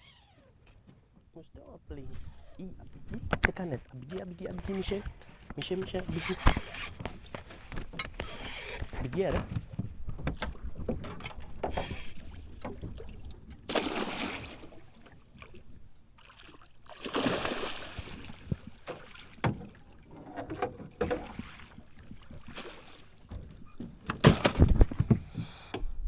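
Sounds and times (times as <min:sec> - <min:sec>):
knocks and bumps in a boat: 0:00.7 - 0:13.9, 0:18.0 - 0:26.0.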